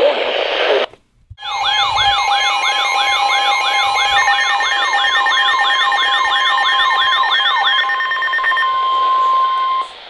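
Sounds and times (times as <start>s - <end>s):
higher steady tone: 1.4s - 10.0s
siren-like sweeping tone: 1.4s - 10.0s
steady alarm tones: 1.4s - 10.0s.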